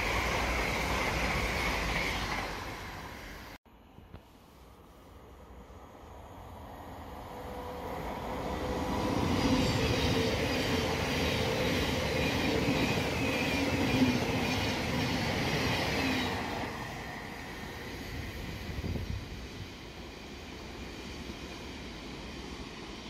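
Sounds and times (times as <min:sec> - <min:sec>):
electric train hum: 0:00.0 - 0:23.0.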